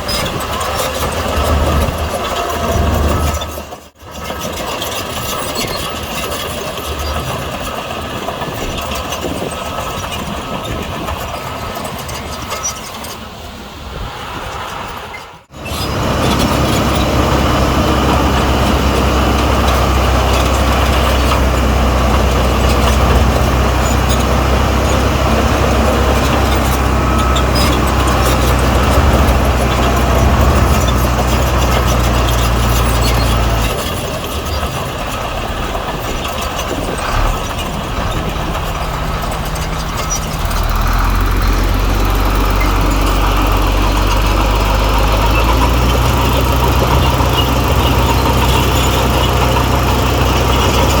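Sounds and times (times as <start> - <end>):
heavy diesel engine running: 0.0 - 14.1, 15.4 - 51.0.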